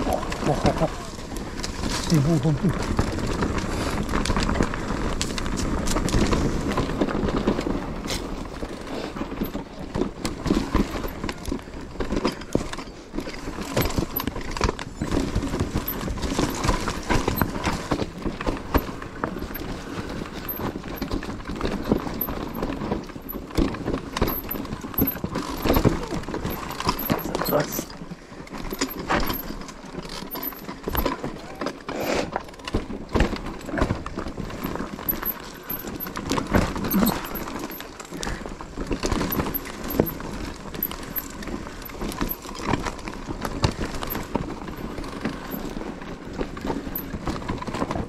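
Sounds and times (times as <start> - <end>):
bike rattling over rocks: 0.0 - 48.0.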